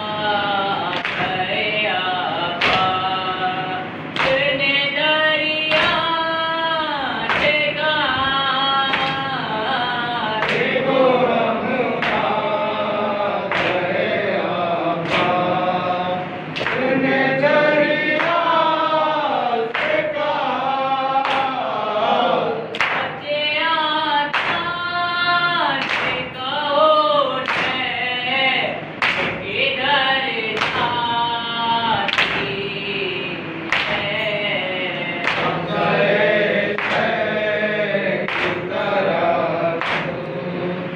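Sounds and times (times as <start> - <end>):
men chanting a lament: 0.0 - 40.9.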